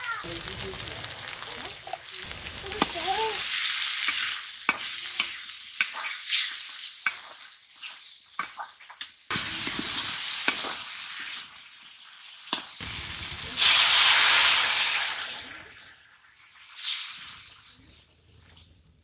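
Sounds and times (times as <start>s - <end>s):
food sizzling in hot oil: 0.0s - 17.8s
water hissing in hot pan: 0.0s - 17.9s.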